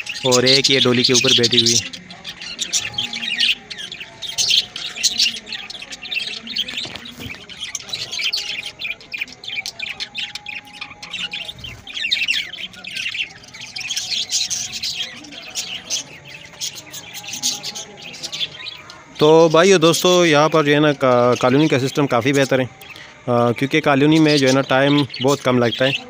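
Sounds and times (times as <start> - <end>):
budgerigars chattering and chirping: 0.0 - 26.0.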